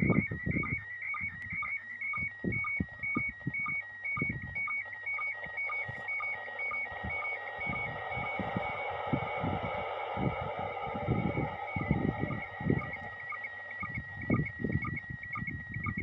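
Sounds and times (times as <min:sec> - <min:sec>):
high tone flicking between pitches: 0:00.0 - 0:16.0
short low sync blips: 0:00.0 - 0:16.0.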